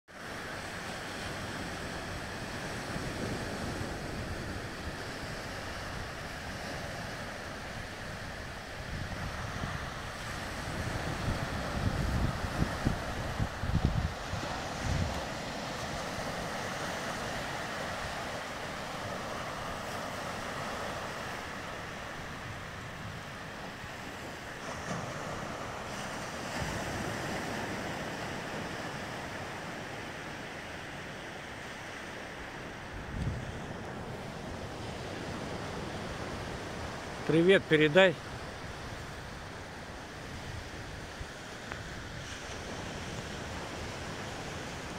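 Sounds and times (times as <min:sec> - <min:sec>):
small waves washing on sand: 0:00.1 - 0:44.9
wind noise on microphone: 0:00.5 - 0:30.7, 0:31.9 - 0:37.3, 0:38.2 - 0:44.9.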